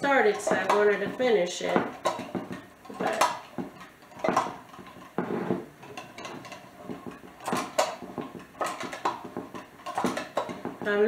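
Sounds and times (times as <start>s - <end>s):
butter churn gears clunking: 0.0s - 11.0s.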